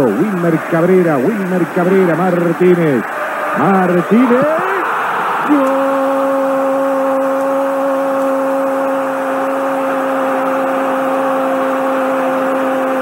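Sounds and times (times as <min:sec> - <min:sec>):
sportscaster shouting: 0:00.0 - 0:13.0
stadium crowd cheering: 0:00.0 - 0:13.0.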